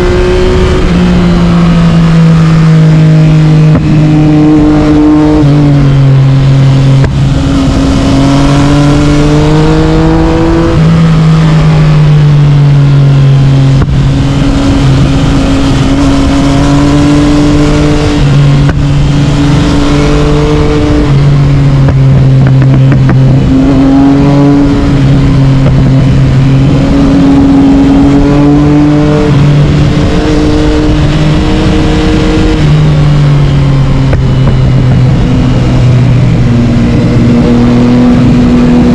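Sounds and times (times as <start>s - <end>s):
motorcycle engine revving: 0.0s - 38.9s
road noise: 0.0s - 38.9s
wind noise: 0.0s - 38.9s.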